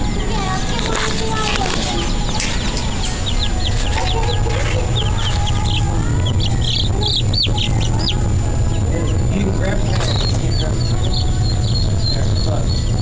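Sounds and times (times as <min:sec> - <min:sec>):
baby chicks peeping: 0:00.0 - 0:13.0
steady low hum: 0:00.0 - 0:13.0.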